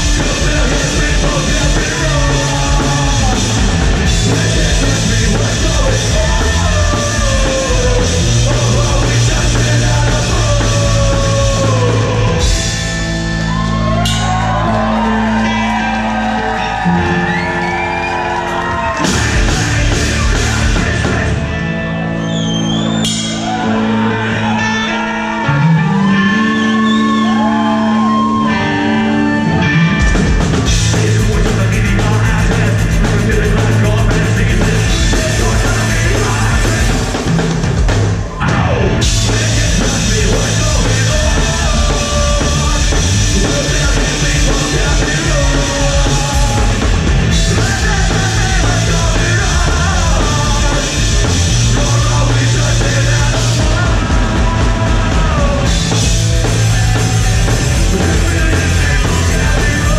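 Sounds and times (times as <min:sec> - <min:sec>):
drums: 0:00.0 - 0:59.9
punk rock band playing live: 0:00.0 - 0:59.9.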